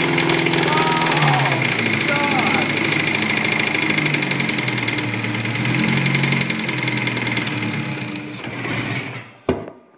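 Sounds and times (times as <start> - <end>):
engine running with rod knock: 0.0 - 9.7.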